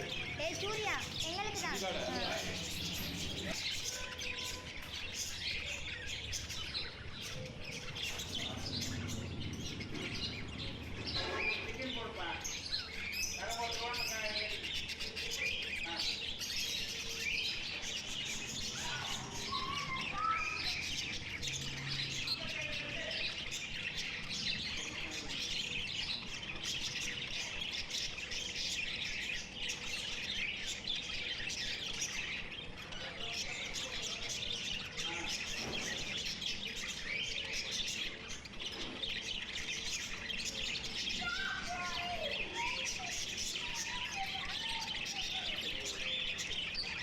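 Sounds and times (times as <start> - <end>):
lovebirds chirping and chattering: 0.0 - 47.0.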